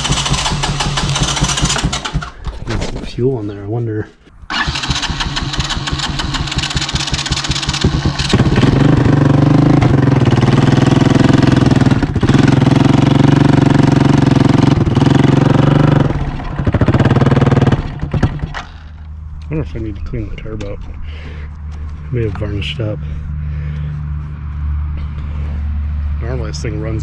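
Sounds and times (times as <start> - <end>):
engine running: 0.0 - 2.6, 4.5 - 27.0.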